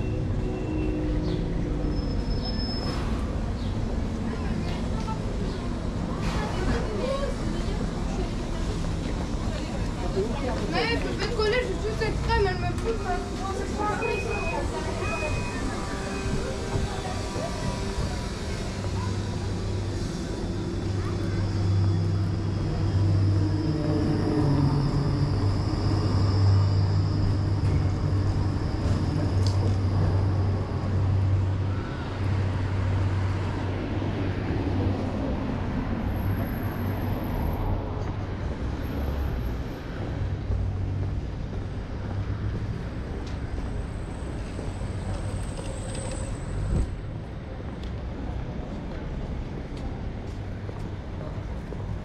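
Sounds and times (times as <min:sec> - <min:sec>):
city street traffic: 0:00.0 - 0:52.0
electric tram passing: 0:00.0 - 0:52.0.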